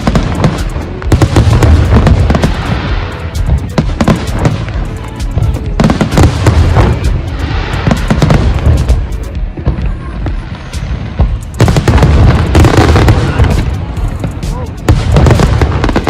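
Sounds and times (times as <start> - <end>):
fireworks booms and cracks: 0.0 - 16.0.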